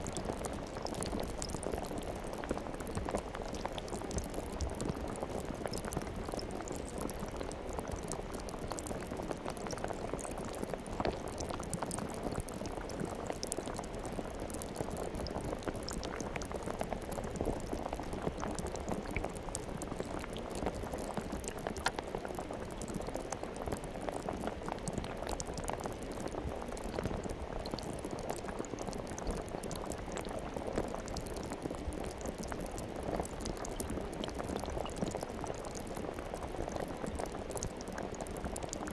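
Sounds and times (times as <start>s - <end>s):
liquid crackling and bubbling: 0.0s - 38.9s.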